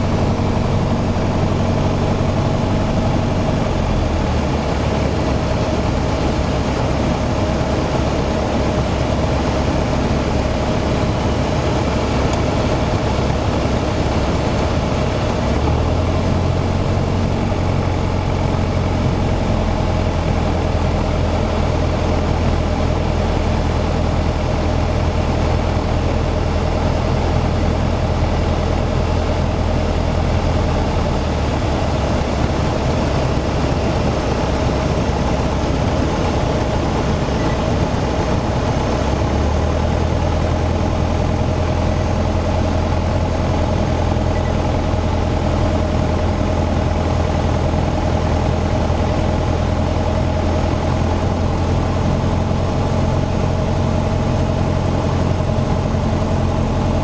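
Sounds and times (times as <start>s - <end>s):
propeller plane engine from cabin: 0.0s - 57.0s.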